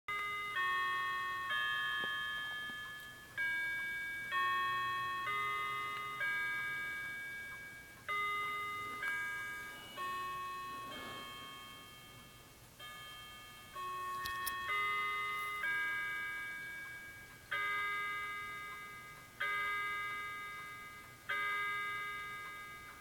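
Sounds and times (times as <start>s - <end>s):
clock chimes playing a melody: 0.1s - 23.0s.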